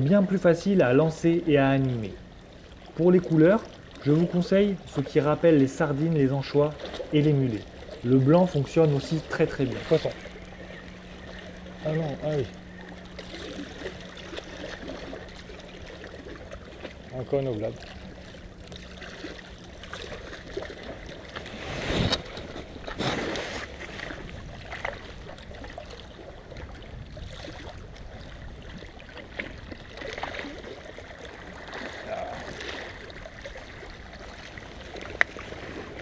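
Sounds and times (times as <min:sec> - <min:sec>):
water lapping against rocks: 0:00.0 - 0:36.0
water splashing surges: 0:00.0 - 0:36.0.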